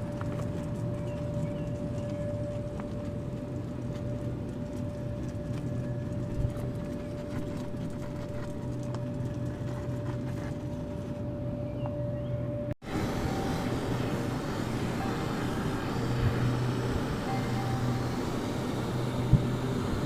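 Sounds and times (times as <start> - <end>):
low machine hum: 0.0 - 20.0
mid-pitched whine: 0.0 - 20.0.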